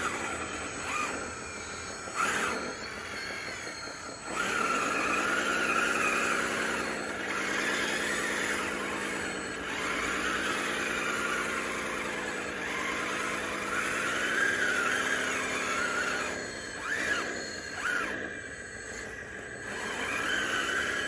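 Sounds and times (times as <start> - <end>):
electric motors whining: 0.0 - 21.0
high wavering squeal: 0.0 - 21.0.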